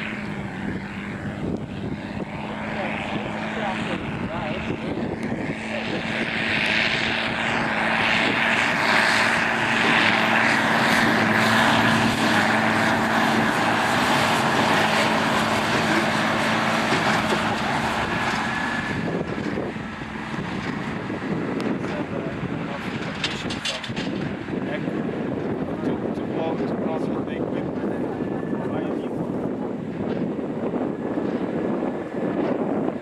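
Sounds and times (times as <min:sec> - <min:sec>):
tractor and baler machinery drone: 0:00.0 - 0:33.0.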